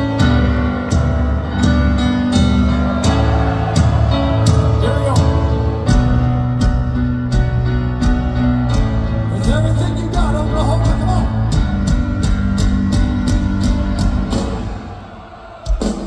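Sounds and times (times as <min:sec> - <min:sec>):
bass guitar: 0:00.0 - 0:14.7
piano chords: 0:00.0 - 0:15.3
drums: 0:00.0 - 0:16.0.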